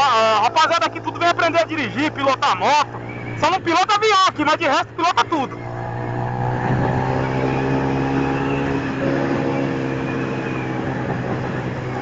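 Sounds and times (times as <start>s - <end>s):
motorcycle engine riding along: 0.0s - 12.0s.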